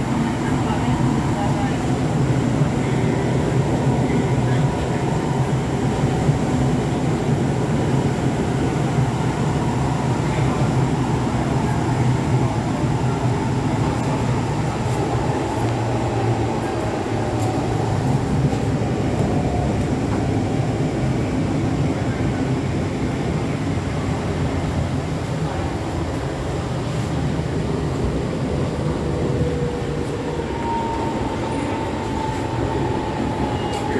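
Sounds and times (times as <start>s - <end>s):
metro train rumble: 0.0s - 33.9s.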